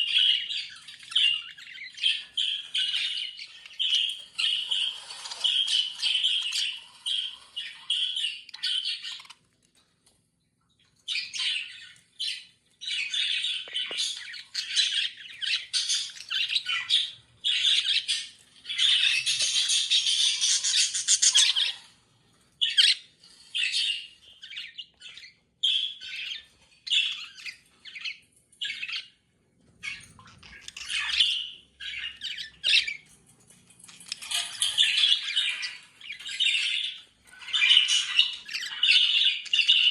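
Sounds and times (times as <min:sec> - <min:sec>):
budgerigars chattering and squawking: 0:00.0 - 0:09.4, 0:11.1 - 0:21.9, 0:22.6 - 0:29.2, 0:29.8 - 0:33.1, 0:34.0 - 0:39.9.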